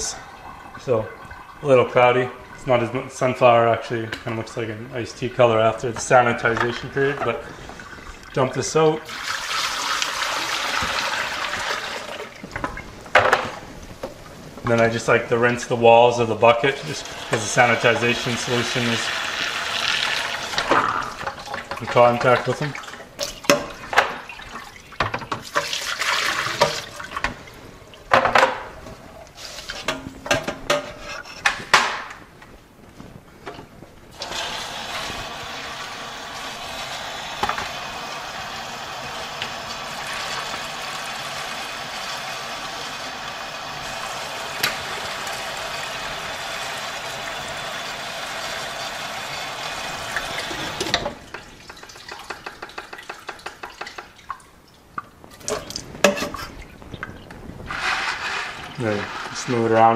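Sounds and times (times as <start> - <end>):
hose water pouring into bucket: 0.0 - 12.9, 14.6 - 27.3, 34.1 - 54.4, 56.4 - 59.9.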